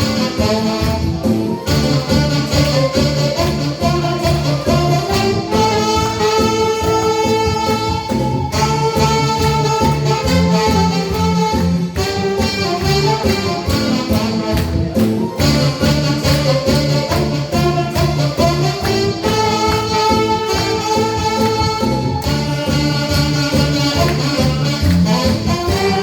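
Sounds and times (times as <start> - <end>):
backing track drum beat: 0.0 - 26.0
saxophones playing melody: 0.0 - 26.0.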